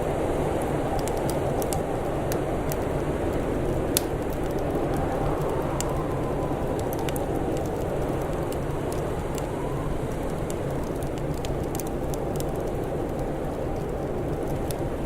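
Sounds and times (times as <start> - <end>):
blizzard wind rushing: 0.0 - 15.0
faint wind whistling: 0.0 - 15.0
wood fire crackling and popping: 0.0 - 15.0.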